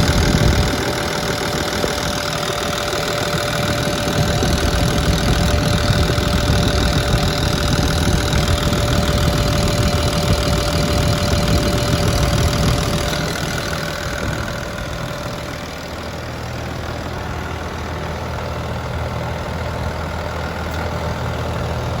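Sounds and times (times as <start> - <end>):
diesel road roller engine running: 0.0 - 22.0.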